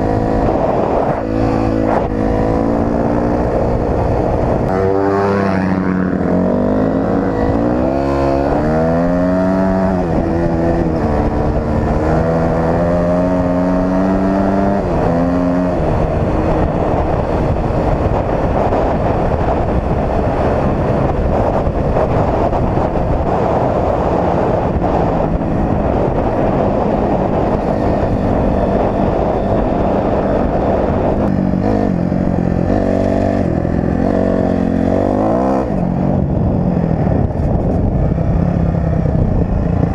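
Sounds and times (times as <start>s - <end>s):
dirt bike engine revving: 0.0s - 19.9s, 20.9s - 36.0s
rush of noise at speed: 0.0s - 39.9s.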